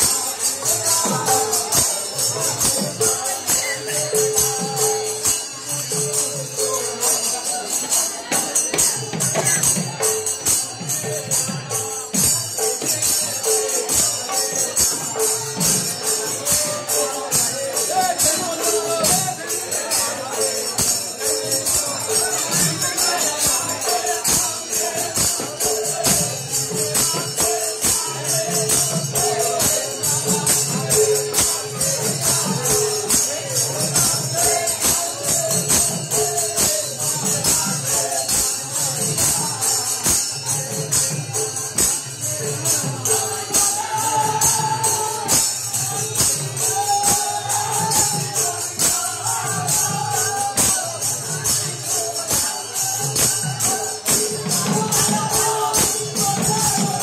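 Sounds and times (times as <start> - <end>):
group singing: 0.0 - 57.0
hand cymbals clashing: 0.0 - 57.0.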